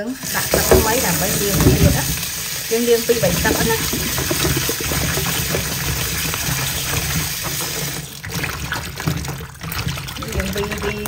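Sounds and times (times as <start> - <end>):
tap water running into basin: 0.0 - 11.0
hand splashing water: 0.2 - 11.0.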